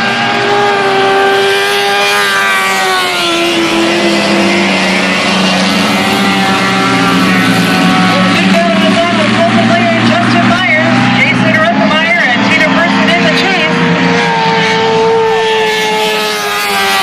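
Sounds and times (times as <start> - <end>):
race truck engines: 0.0 - 17.0.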